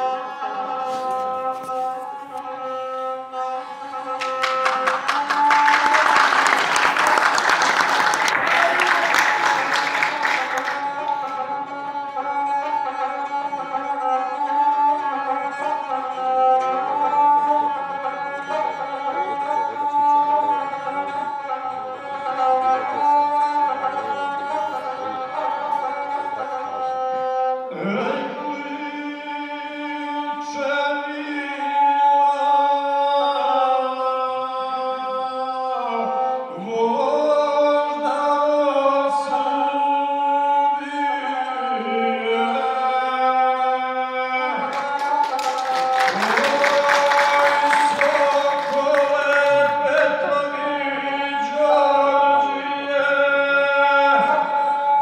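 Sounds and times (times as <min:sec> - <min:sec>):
man singing: 0:00.0 - 0:21.2, 0:27.7 - 0:55.0
bowed string instrument: 0:00.0 - 0:55.0.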